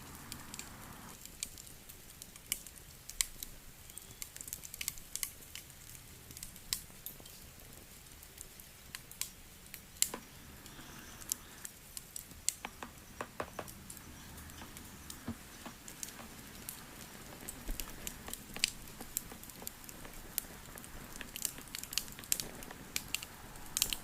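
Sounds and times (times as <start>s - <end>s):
low steady hiss: 0.0s - 24.0s
wood fire crackling and popping: 0.0s - 24.0s.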